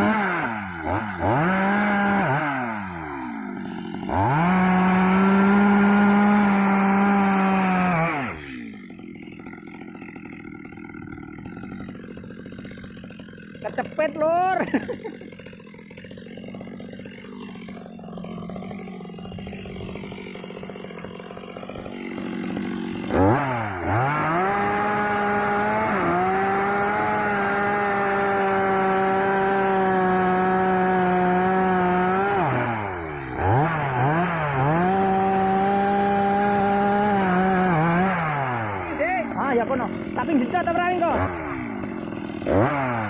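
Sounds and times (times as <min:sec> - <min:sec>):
chainsaw idling and revving: 0:00.0 - 0:43.0.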